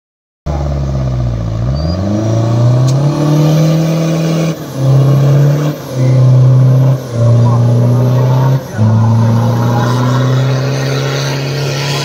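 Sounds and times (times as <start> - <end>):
engine revving under load: 0.5 - 12.0.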